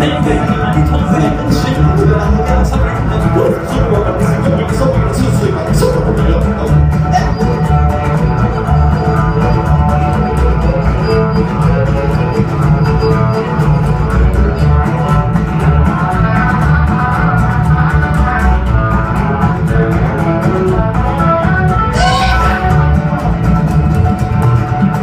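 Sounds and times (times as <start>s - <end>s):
electric guitar: 0.0s - 25.0s
strummed acoustic guitar: 0.0s - 25.0s
upright double bass: 0.0s - 25.0s
violin: 0.0s - 25.0s.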